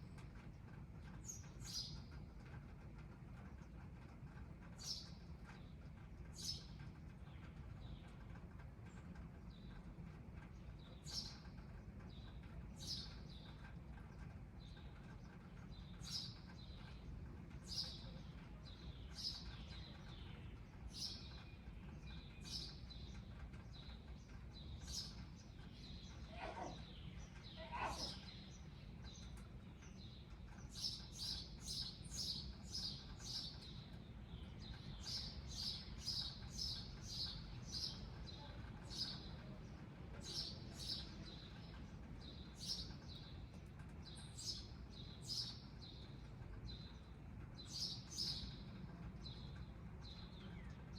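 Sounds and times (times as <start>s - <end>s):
low outdoor hum: 0.0s - 50.9s.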